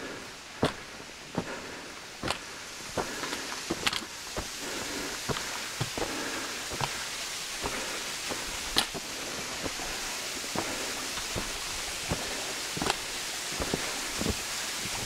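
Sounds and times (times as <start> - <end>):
footsteps crunching in snow: 0.0 - 15.0
steady rushing hiss: 0.0 - 15.0.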